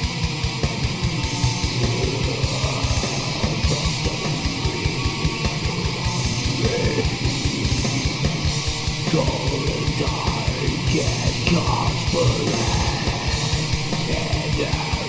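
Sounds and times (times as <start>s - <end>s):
distorted electric guitars: 0.0s - 15.0s.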